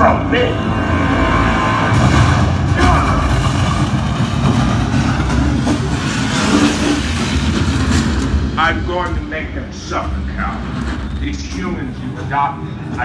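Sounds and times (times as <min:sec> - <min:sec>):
movie soundtrack with heavy bass: 0:00.0 - 0:13.0.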